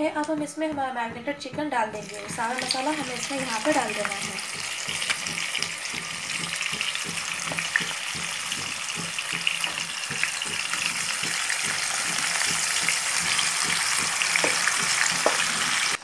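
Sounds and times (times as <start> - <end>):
chicken sizzling in hot oil: 2.0 - 16.0.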